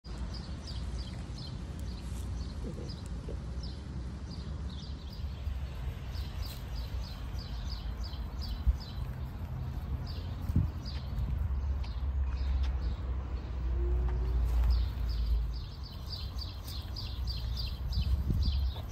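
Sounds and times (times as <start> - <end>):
small birds chirping: 0.1 - 18.9.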